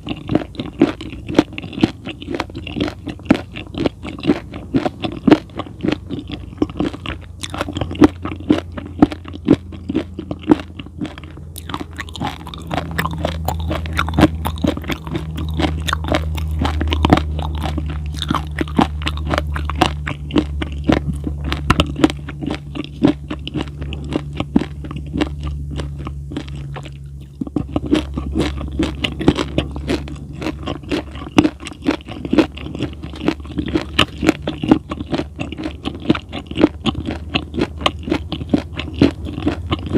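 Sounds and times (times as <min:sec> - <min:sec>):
low steady hum: 0:00.0 - 0:39.9
wet crunchy chewing: 0:00.0 - 0:39.9.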